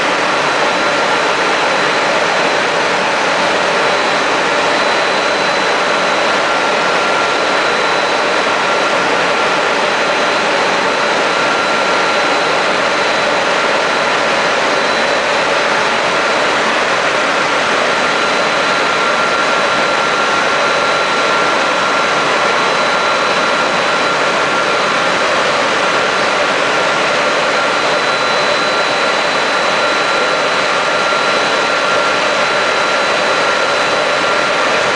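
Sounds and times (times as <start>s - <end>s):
car wash machine running: 0.0s - 34.9s.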